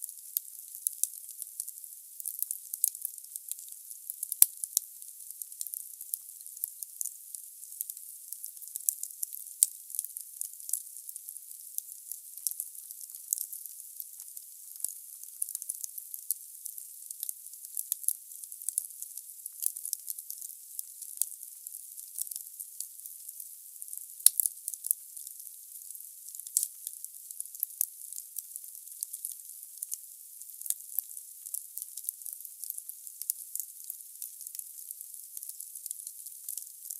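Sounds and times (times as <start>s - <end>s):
wood crackling in fireplace: 0.1s - 36.9s.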